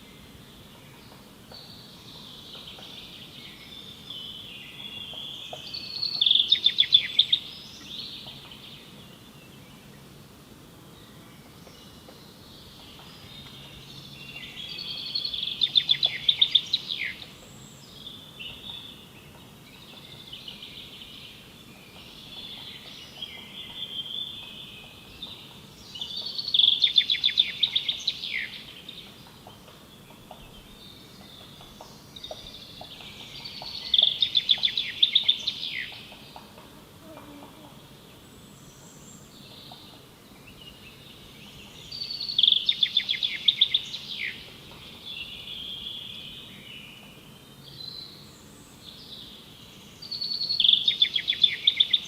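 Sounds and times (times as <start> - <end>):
songbird singing trills: 0.0 - 10.1, 10.9 - 52.0.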